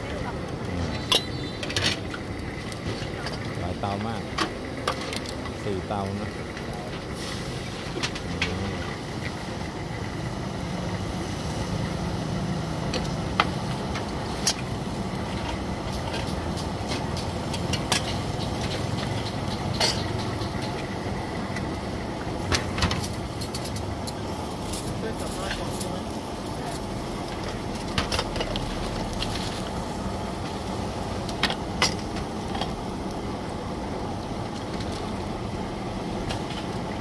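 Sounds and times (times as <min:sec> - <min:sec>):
low engine-like rumble: 0:00.0 - 0:37.0.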